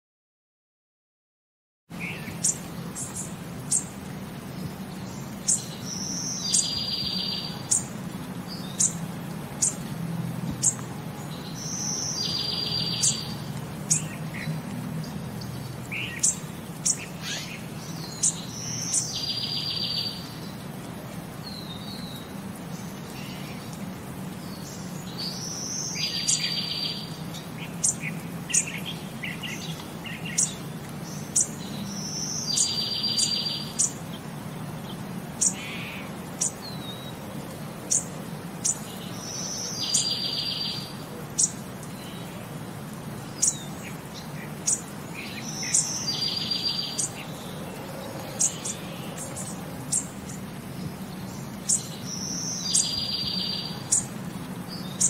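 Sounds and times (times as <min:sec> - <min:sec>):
bird chirping: 0:02.0 - 0:09.9, 0:10.6 - 0:20.7, 0:21.4 - 0:37.2, 0:37.9 - 0:42.5, 0:43.1 - 0:55.0.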